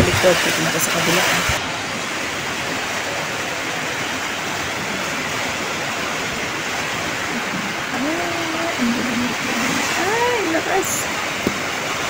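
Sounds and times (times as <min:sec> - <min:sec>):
light rain: 0:00.0 - 0:12.0.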